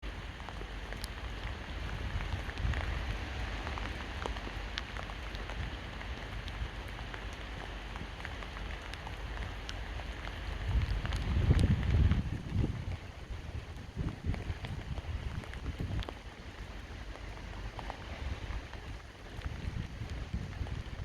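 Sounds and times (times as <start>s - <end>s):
rain falling: 0.0s - 21.0s
raindrops striking close by: 0.0s - 21.0s.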